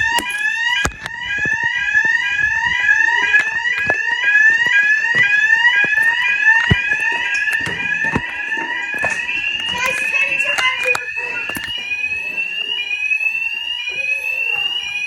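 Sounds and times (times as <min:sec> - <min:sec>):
fire alarm sweep tone: 0:00.0 - 0:15.0.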